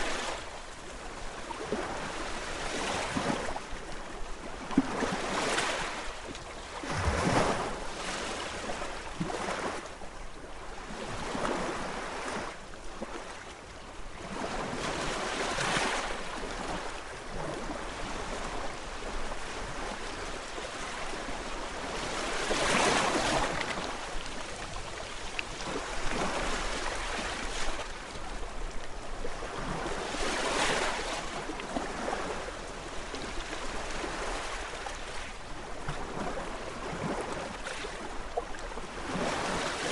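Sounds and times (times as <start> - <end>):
sea waves washing ashore: 0.0 - 9.9, 10.8 - 39.9.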